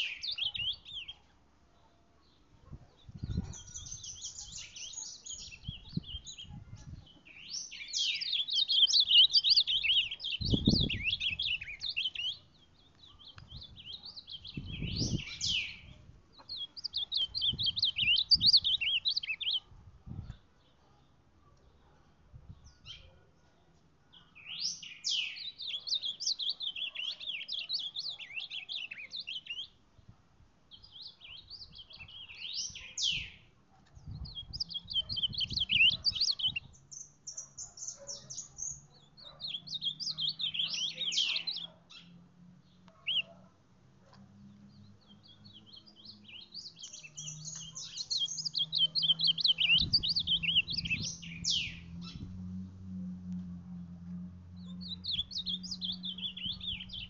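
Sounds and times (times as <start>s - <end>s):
bird singing warbled song: 0.0s - 57.0s.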